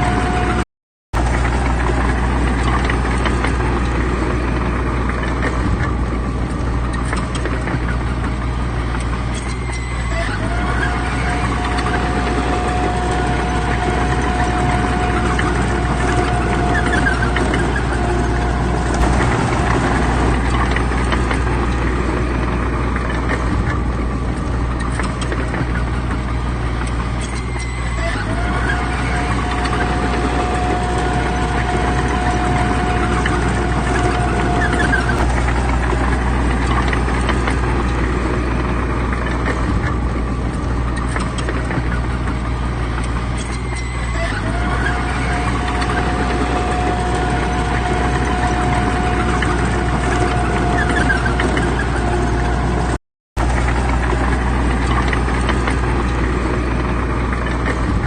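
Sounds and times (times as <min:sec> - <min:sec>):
held machine whine: 0:00.0 - 0:00.6, 0:01.2 - 0:58.0
bulldozer engine drone: 0:00.0 - 0:58.0.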